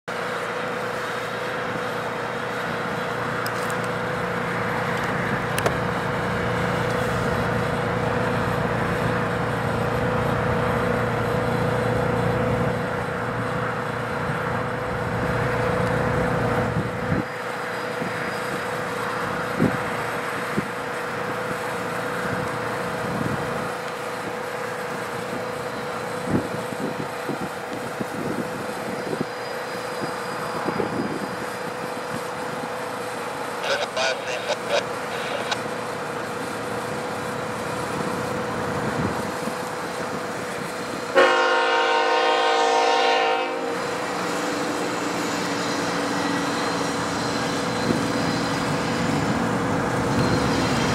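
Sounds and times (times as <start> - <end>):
constant high whine: 0.1 - 41.5
locomotive engine rumble: 0.1 - 42.6.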